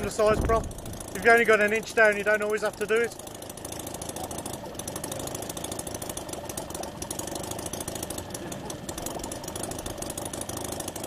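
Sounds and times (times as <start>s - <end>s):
model engine running: 0.0s - 11.0s.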